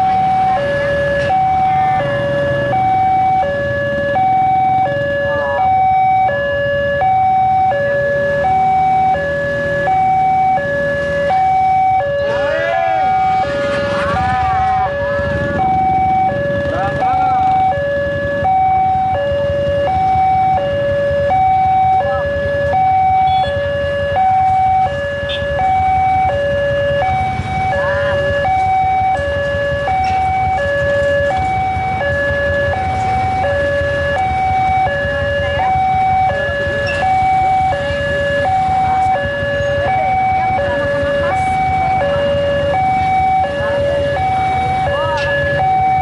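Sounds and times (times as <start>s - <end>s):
level crossing two-tone alarm: 0.0s - 46.0s
low traffic rumble: 0.0s - 46.0s.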